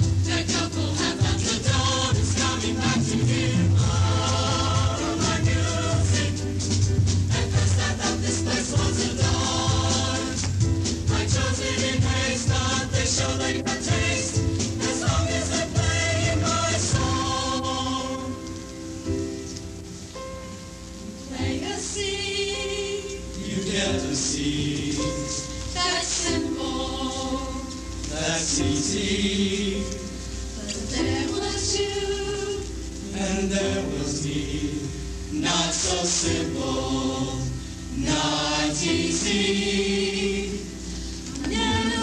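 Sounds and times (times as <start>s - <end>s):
choir singing: 0.0s - 18.6s, 21.3s - 42.0s.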